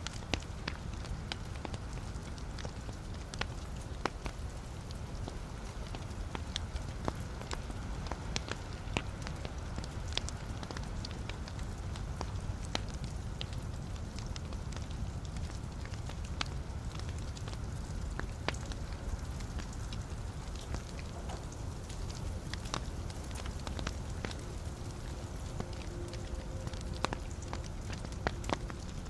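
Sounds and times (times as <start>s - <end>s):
fire crackles and pops: 0.0s - 29.0s
fire rumbling: 0.0s - 29.0s.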